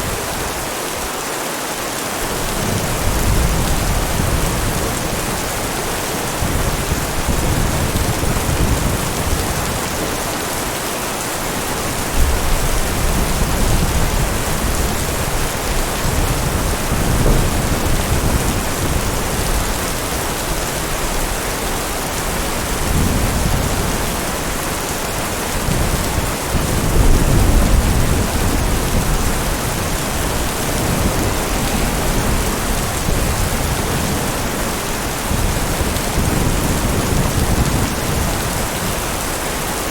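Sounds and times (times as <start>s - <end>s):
heavy rain: 0.0s - 39.9s
low thunder rumbling: 2.3s - 10.8s, 11.4s - 39.7s.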